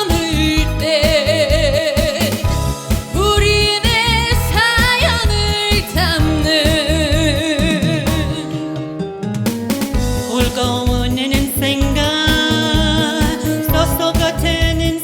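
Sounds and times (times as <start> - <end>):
steady beat with bass: 0.0 - 8.4, 9.5 - 15.0
singing with wide vibrato: 0.0 - 8.6, 10.3 - 15.0.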